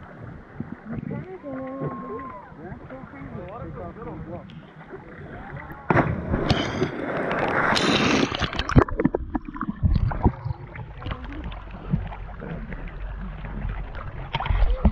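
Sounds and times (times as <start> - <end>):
water sloshing and splashing: 0.0 - 14.9.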